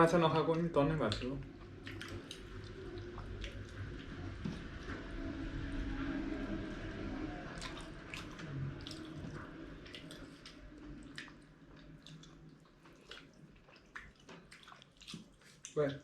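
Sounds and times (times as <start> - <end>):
wet clicks and smacks: 0.4 - 5.0, 7.6 - 16.0
wet chewing sounds: 0.5 - 5.3, 7.5 - 16.0.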